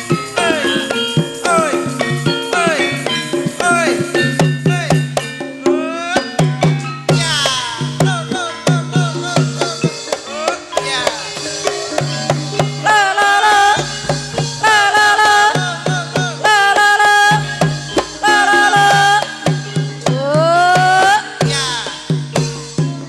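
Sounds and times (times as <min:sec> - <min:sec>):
high voice singing: 0:00.0 - 0:05.0, 0:05.6 - 0:06.4, 0:07.2 - 0:22.2
hand drum strokes: 0:00.0 - 0:23.0
struck bronze melody notes: 0:00.0 - 0:23.0.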